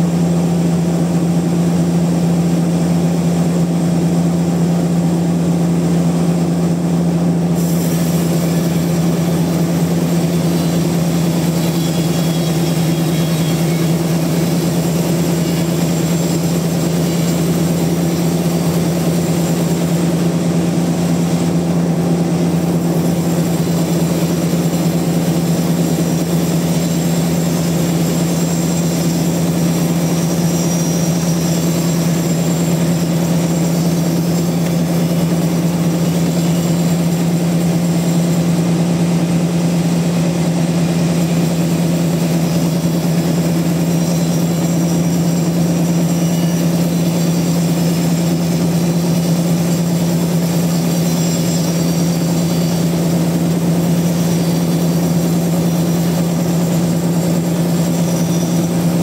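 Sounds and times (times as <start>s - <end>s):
sawmill machinery hum and hiss: 0.0s - 59.0s.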